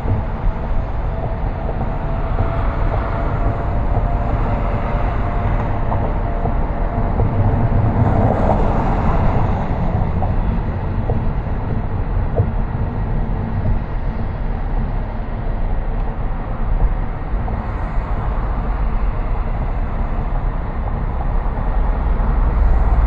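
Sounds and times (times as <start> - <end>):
car engine rumble: 0.0 - 23.0
road and tyre noise: 0.0 - 23.0.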